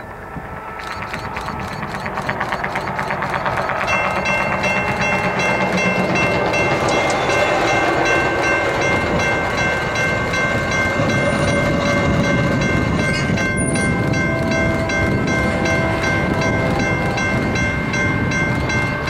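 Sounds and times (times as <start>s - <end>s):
freight train rumble: 0.0s - 19.0s
high held locomotive tones: 0.0s - 19.0s
low tone: 0.0s - 19.0s.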